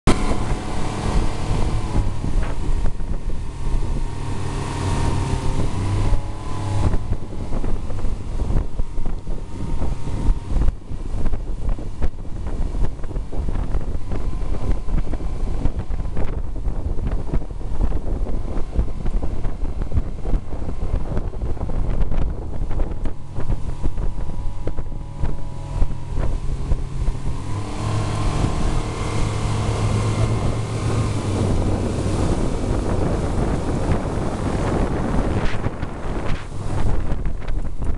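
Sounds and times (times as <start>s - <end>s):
outboard motor running: 0.1s - 37.9s
rushing water: 0.1s - 37.9s
wind buffeting microphone: 0.1s - 37.9s.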